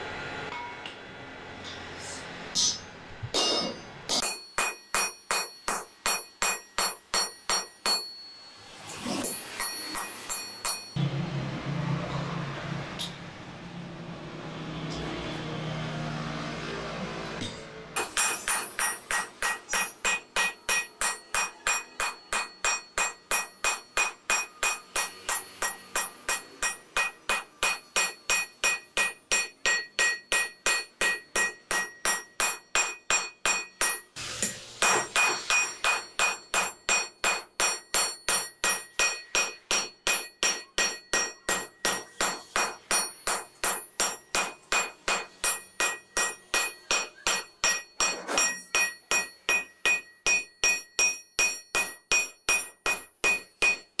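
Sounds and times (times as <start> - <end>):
hammer striking steel on anvil: 0.4 - 1.9, 2.5 - 11.1, 13.0 - 13.2, 17.4 - 54.0.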